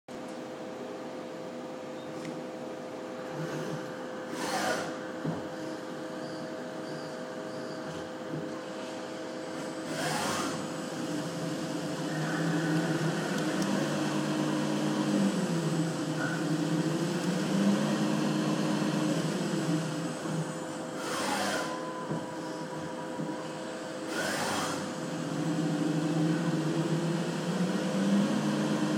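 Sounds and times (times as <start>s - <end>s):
lathe machine hum: 2.8s - 28.9s.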